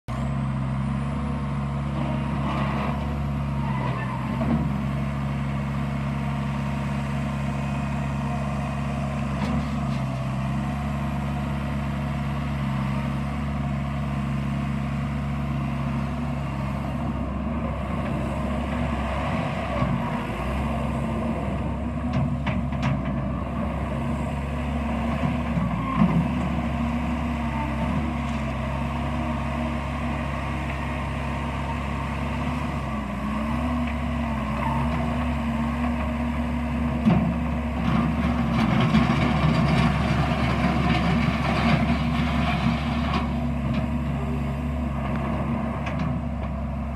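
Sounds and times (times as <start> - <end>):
loader engine running: 0.1 - 46.9.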